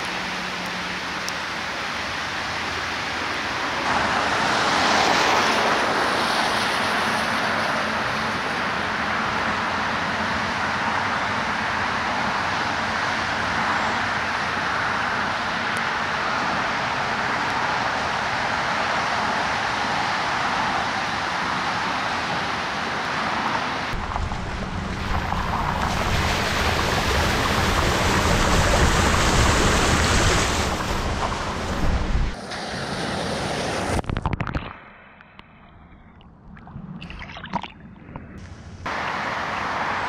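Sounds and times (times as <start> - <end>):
rain hissing on flooded street: 0.0 - 34.0, 38.9 - 40.0
steady rushing noise: 0.0 - 35.7.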